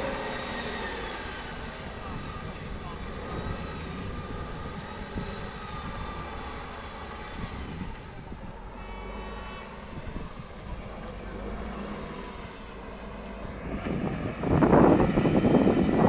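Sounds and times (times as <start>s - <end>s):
heavy truck engine running: 0.0s - 16.0s.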